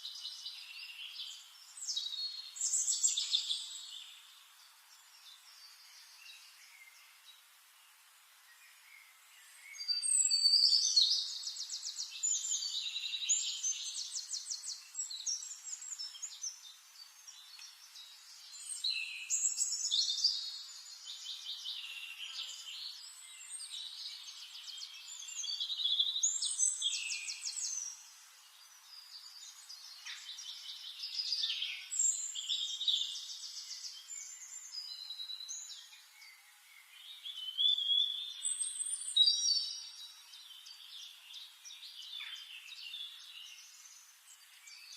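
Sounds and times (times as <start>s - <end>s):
songbirds singing with trills: 0.0s - 44.9s.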